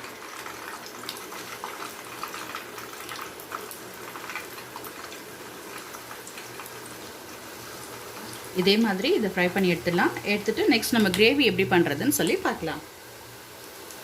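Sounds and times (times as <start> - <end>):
food deep-frying in oil: 0.0 - 14.0.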